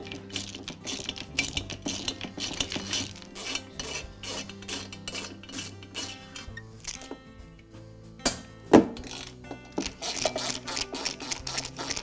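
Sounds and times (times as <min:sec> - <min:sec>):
screwdriver scraping and clicking: 0:00.0 - 0:07.2, 0:09.0 - 0:12.0
faint background music: 0:00.0 - 0:12.0.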